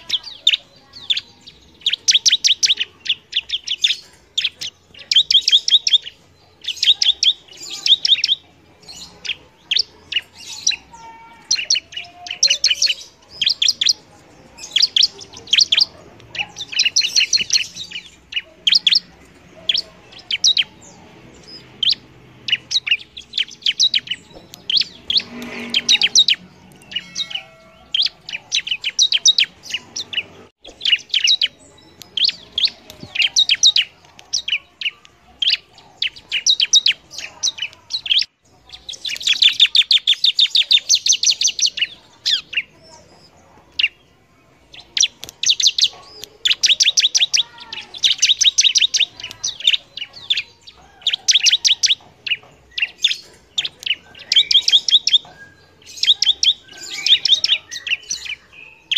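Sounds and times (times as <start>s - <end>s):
bird singing high sharp chirps: 0.0s - 58.9s.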